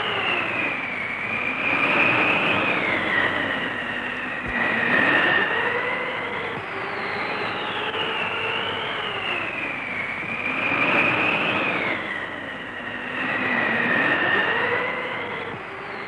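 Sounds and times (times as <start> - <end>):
howling wind roar: 0.0 - 16.0.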